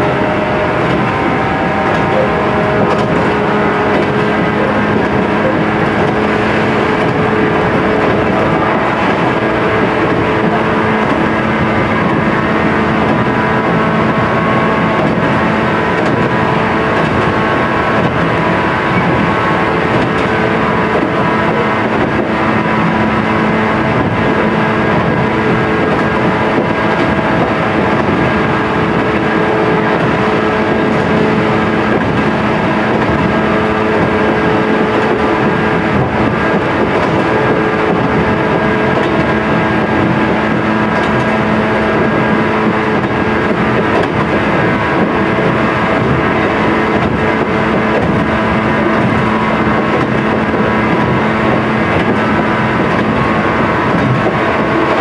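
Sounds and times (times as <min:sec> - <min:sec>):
traction motors humming: 0:00.0 - 0:55.0
train wheels on rails: 0:00.0 - 0:55.0.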